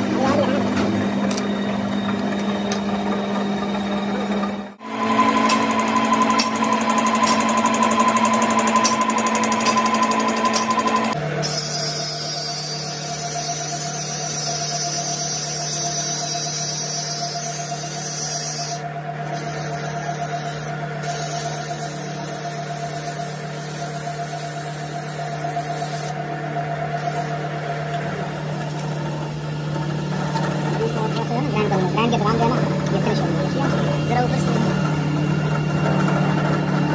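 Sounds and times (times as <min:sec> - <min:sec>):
metal lathe humming: 0:00.0 - 0:36.9.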